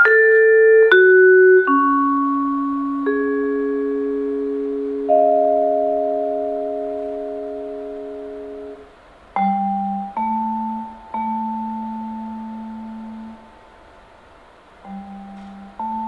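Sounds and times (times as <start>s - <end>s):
vibraphone: 0.0s - 8.8s, 9.4s - 13.6s, 14.8s - 16.0s.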